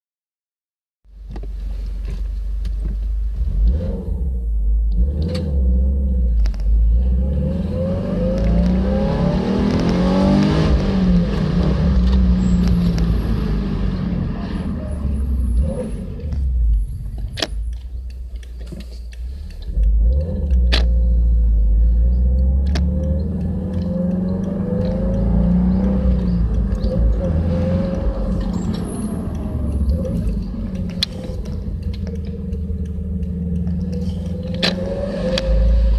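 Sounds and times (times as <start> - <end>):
car engine accelerating: 1.2 - 35.9.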